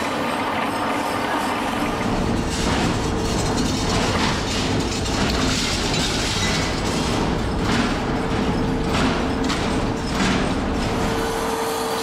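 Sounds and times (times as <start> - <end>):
sheet-metal machinery din: 0.0 - 12.0.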